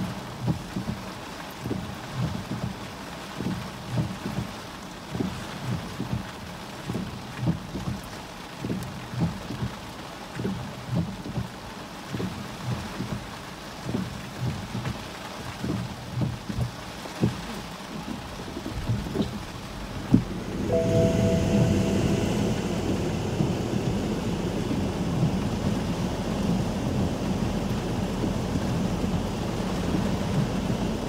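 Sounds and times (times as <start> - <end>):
dull thuds of big raindrops: 0.0 - 20.6, 22.6 - 31.0
heavy rain on glass and roof: 0.0 - 31.0.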